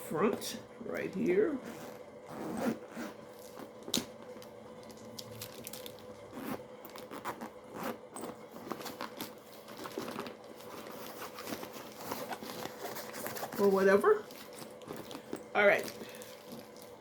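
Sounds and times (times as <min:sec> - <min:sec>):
handbag rustling and clicking: 0:01.1 - 0:17.0.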